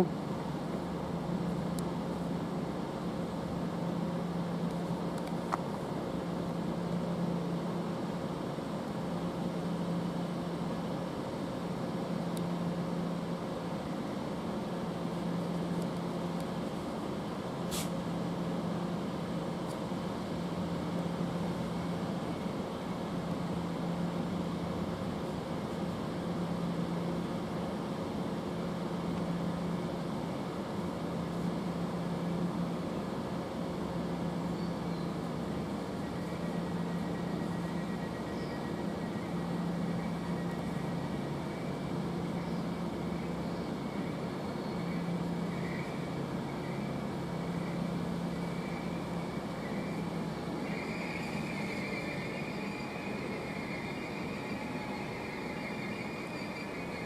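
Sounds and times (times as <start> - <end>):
electric train hum: 0.0 - 57.0.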